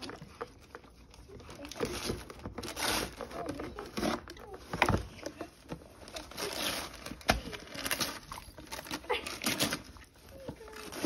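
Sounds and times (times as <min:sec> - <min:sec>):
wrapping paper crinkling and tearing: 0:00.0 - 0:11.0.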